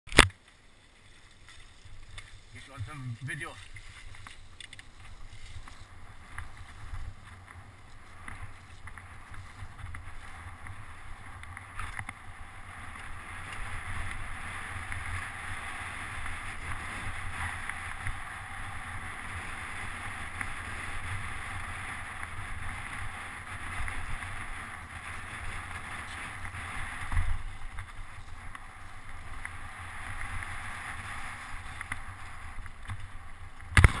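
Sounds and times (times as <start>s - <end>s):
bike rumbling and rattling: 0.1s - 34.0s.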